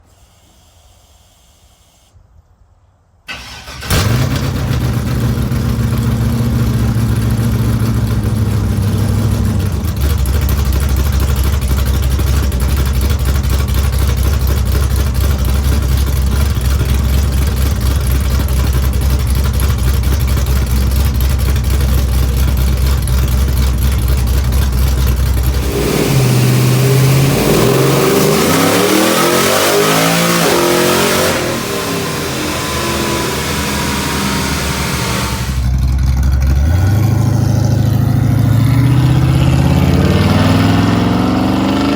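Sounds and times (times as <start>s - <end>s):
engine cranking: 3.3s - 39.6s
car engine idling: 3.3s - 41.6s
engine revving: 3.3s - 41.9s.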